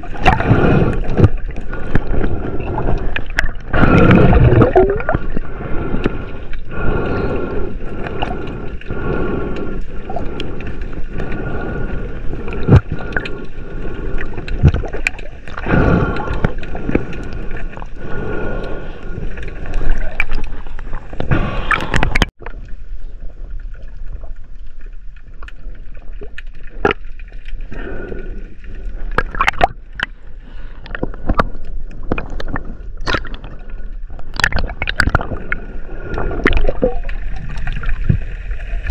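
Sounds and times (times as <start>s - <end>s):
water gurgling and sloshing: 0.0s - 38.9s.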